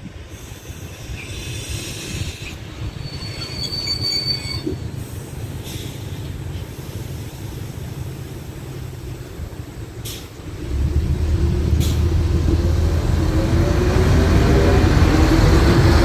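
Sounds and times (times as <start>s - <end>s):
railcar engine and wheels rumbling: 0.0s - 16.0s.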